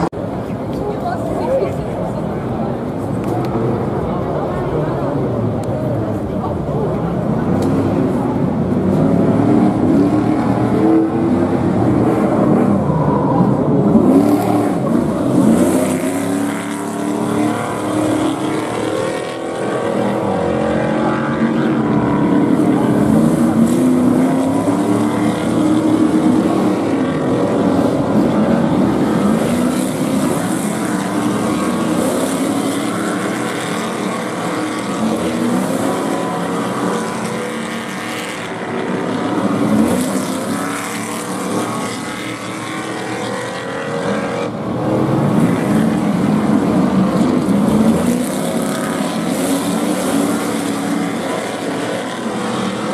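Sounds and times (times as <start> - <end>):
race truck engines revving: 0.0 - 52.9.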